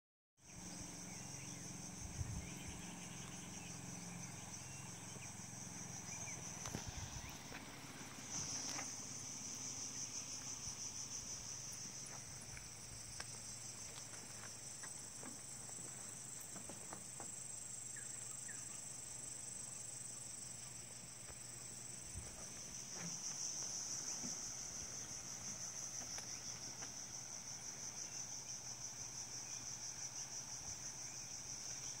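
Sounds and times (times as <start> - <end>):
insects pulsing chorus: 0.4 - 32.0.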